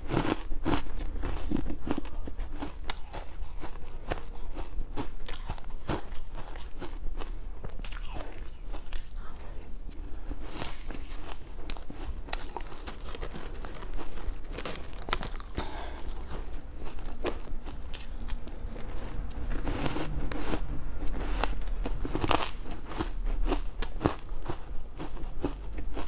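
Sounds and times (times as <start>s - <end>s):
person chewing ice: 0.0s - 26.0s.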